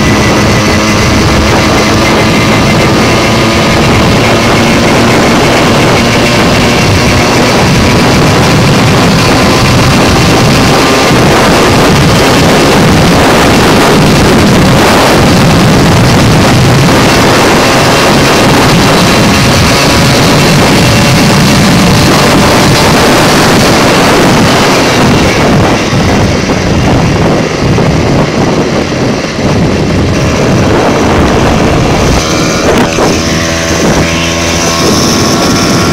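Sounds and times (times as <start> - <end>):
moped engine at high revs: 0.0 - 35.9
wind noise on microphone: 0.0 - 35.9.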